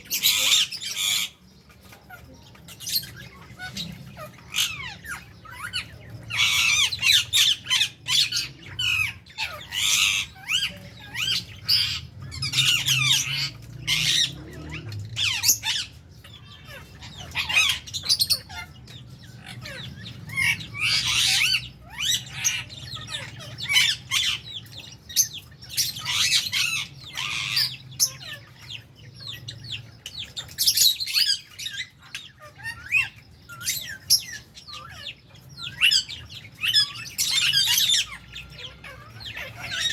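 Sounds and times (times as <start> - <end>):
lovebirds squawking and chattering: 0.0 - 39.9.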